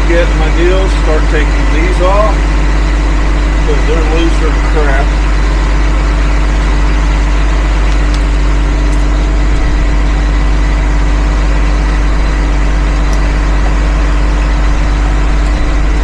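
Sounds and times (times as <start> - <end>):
excavator engine idling: 0.0 - 16.0.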